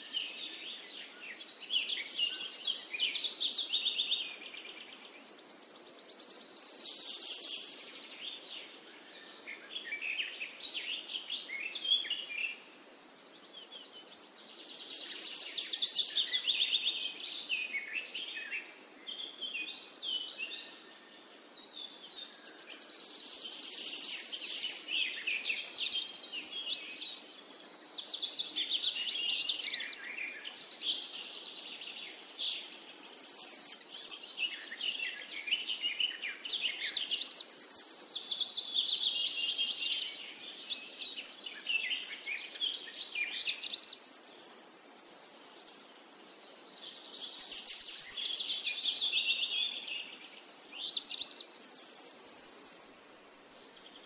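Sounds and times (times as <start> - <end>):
birds singing: 0.0 - 53.0.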